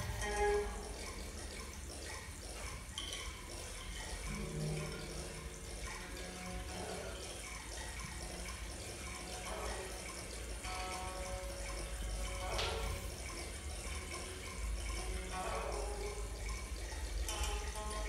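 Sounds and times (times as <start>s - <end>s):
water trickling and gurgling: 0.0s - 18.0s.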